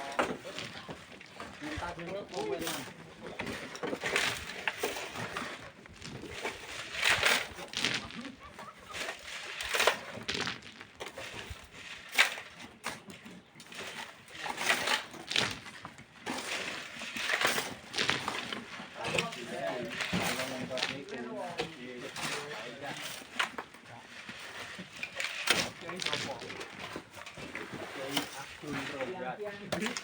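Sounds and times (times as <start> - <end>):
shovels digging sand and stone: 0.0 - 30.0.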